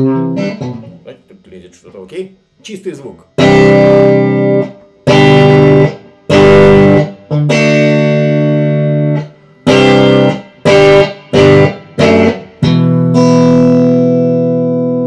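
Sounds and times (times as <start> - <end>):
clean electric guitar chords: 0.0 - 15.0.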